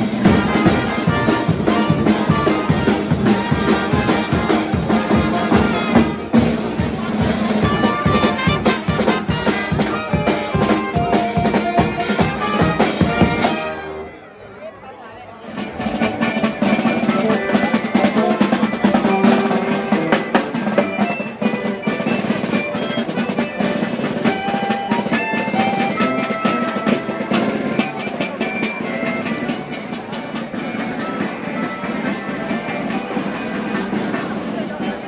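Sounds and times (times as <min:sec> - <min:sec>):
snare and bass drum beat: 0:00.0 - 0:13.9, 0:15.6 - 0:35.0
brass instruments: 0:00.0 - 0:14.6, 0:15.5 - 0:29.9
accordion: 0:00.0 - 0:35.0
street band playing lively tune: 0:00.0 - 0:35.0.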